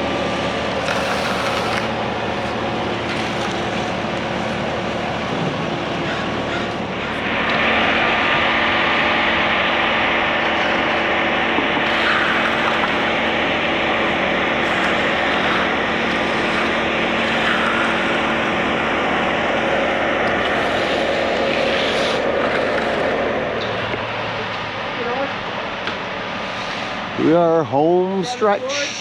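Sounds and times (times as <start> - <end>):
concrete pump noise: 0.0 - 29.0
diesel engine drone: 0.0 - 29.0.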